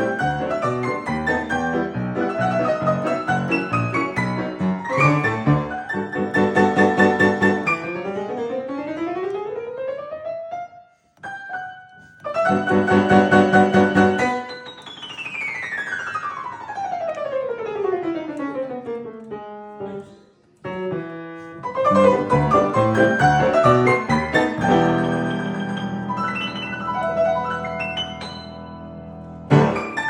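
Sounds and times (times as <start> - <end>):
piano playing: 0.0 - 30.0.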